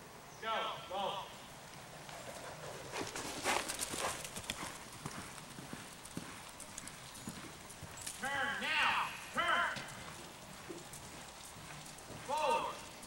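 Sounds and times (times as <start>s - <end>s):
soft hoofbeats on sand: 1.7s - 13.0s.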